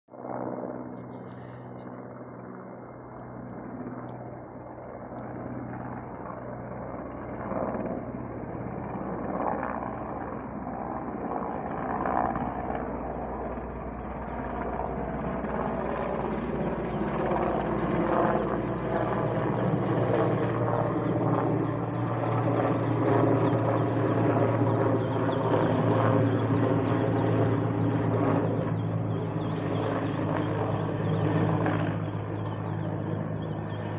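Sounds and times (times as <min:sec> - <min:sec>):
helicopter rotor and engine drone: 0:00.1 - 0:33.9.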